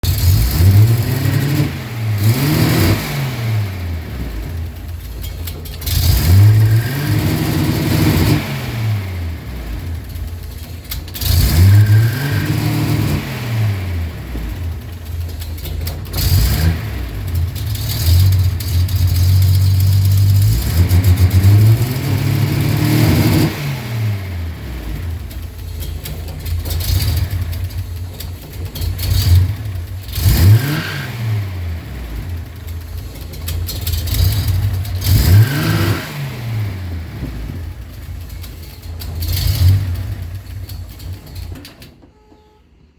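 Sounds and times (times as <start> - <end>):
car engine revving: 0.0 - 41.6
engine rough idle: 0.0 - 41.8.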